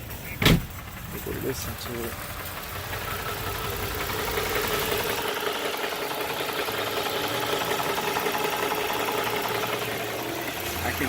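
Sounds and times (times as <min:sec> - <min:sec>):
car engine idling: 0:00.0 - 0:11.0
engine knocking: 0:00.0 - 0:11.0.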